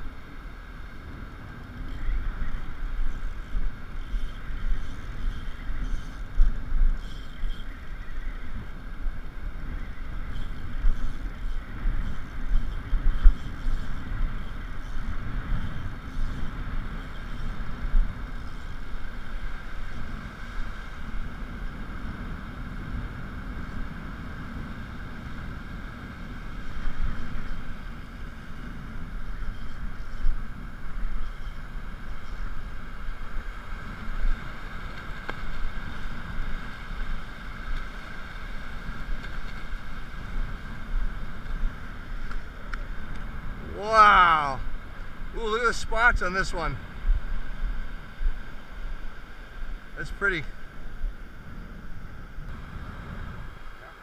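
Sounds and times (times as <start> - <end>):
wind buffeting the microphone: 0.0 - 54.0
surf hiss: 9.4 - 54.0.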